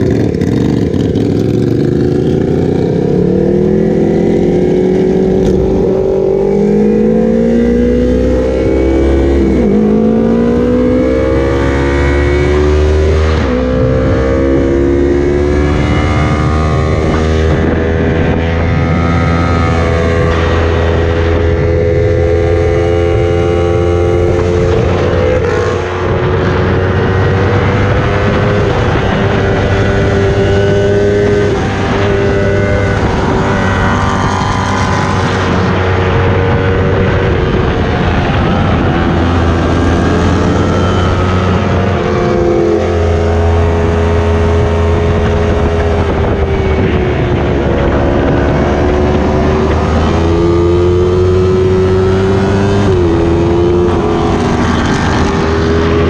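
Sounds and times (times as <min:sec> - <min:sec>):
motorcycle engine at speed: 0:00.0 - 0:56.0
wind rush on microphone: 0:00.0 - 0:56.0.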